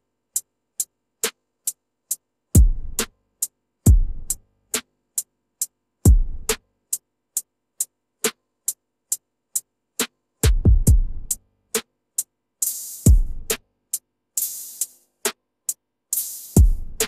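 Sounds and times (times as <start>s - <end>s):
hi-hat-like ticks: 0.3s - 17.0s.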